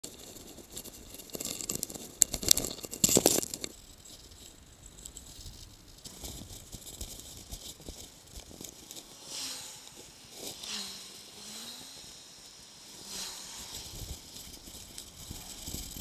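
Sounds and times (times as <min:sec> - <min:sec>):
bicycle riding noise: 0:00.0 - 0:16.0
camera rattling on bicycle: 0:00.0 - 0:16.0.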